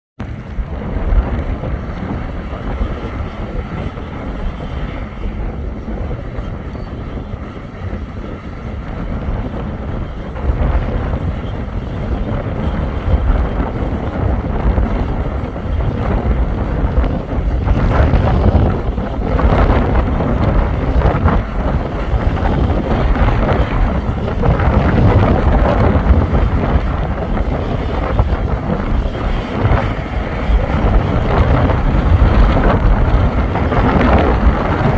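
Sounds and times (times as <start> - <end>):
bulldozer engine rumbling: 0.2 - 34.9
wind buffeting microphone: 0.2 - 34.9.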